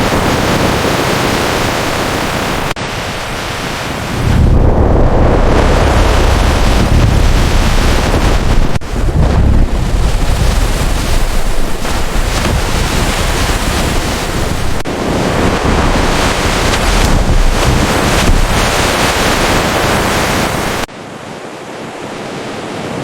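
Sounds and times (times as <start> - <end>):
surf: 0.0 - 20.9
wind buffeting microphone: 0.0 - 20.9
rushing wind: 0.0 - 23.0.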